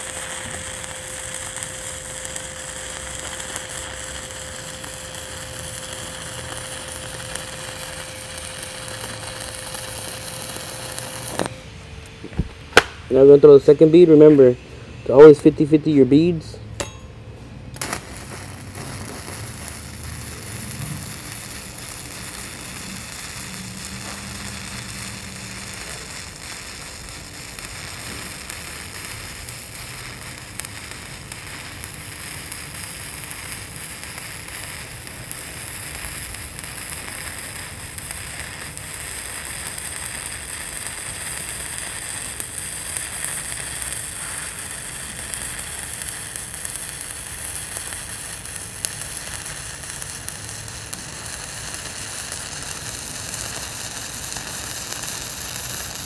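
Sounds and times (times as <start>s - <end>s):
welding arc crackling and hissing: 0.0s - 11.6s, 17.7s - 56.0s.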